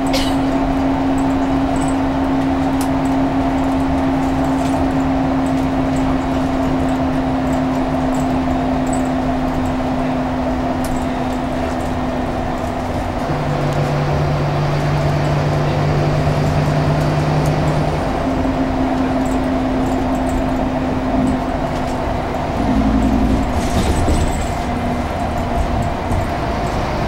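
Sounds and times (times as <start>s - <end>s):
bus engine drone with whine: 0.0s - 27.0s.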